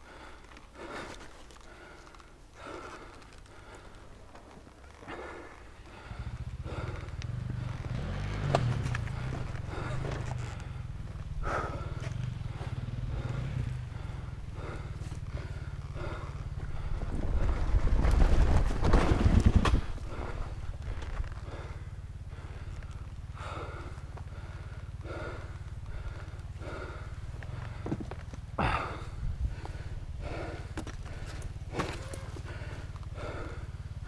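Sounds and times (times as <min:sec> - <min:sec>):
dirt bike engine revving: 0:05.9 - 0:34.0.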